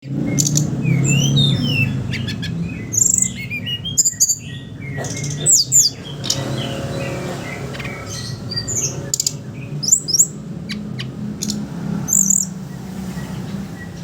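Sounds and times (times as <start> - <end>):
bird chirping and whistling: 0.0 - 14.0.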